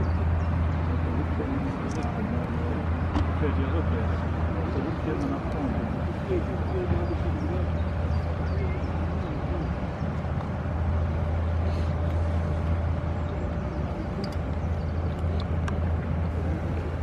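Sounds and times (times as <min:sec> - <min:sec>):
barge diesel engine drone: 0:00.0 - 0:17.0.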